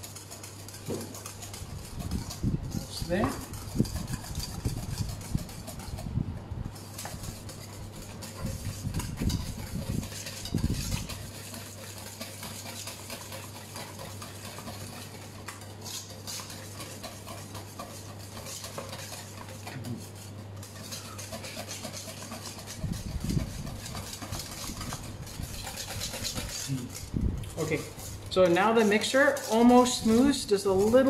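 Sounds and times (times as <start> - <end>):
whisk scraping metal bowl: 0.0 - 31.0.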